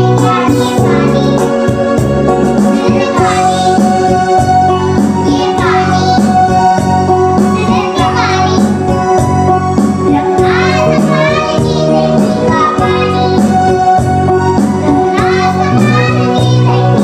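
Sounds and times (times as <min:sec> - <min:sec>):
children singing: 0:00.0 - 0:17.0
music: 0:00.0 - 0:17.0.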